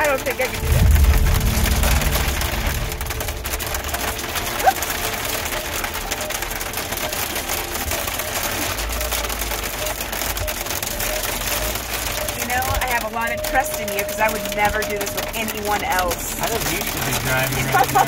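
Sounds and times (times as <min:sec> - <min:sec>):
hail and rain ticking on a car: 0:00.0 - 0:18.0
low engine rumble: 0:00.0 - 0:18.0.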